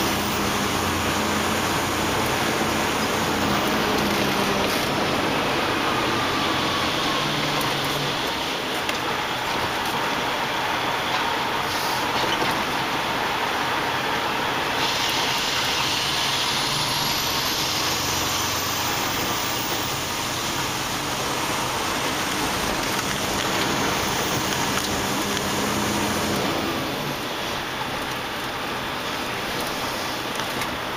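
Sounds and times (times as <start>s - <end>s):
road noise: 0.0s - 30.9s
truck engine running: 0.0s - 30.9s.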